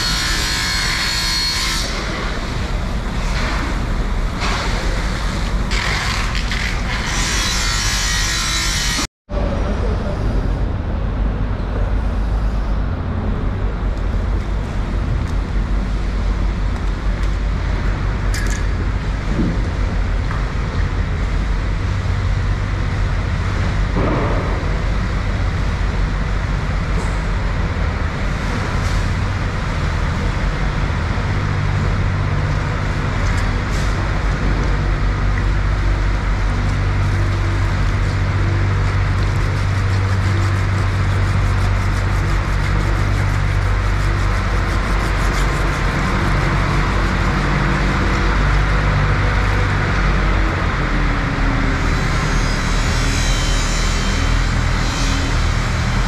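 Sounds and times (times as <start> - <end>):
constant noisy background: 0.0 - 56.0
low engine-like hum: 1.3 - 7.4, 9.0 - 56.0.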